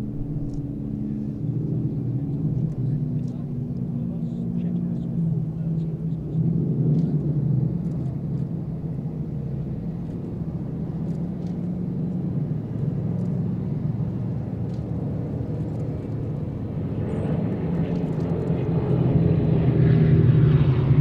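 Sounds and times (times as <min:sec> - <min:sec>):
propeller planes droning overhead: 0:00.0 - 0:21.0.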